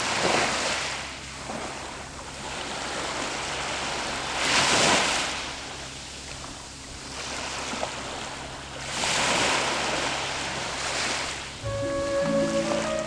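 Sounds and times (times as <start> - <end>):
low rumble of surf: 0.0 - 13.0
waves washing up on beach: 0.0 - 13.0.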